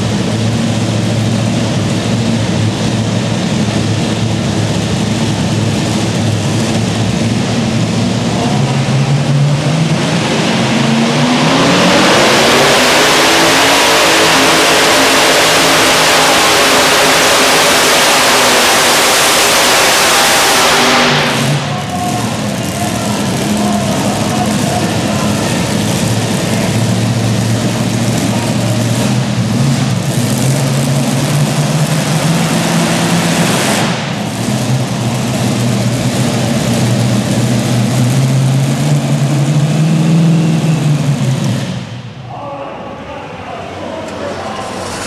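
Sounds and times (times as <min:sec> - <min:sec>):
pulling tractor engine roaring: 0:00.0 - 0:45.0.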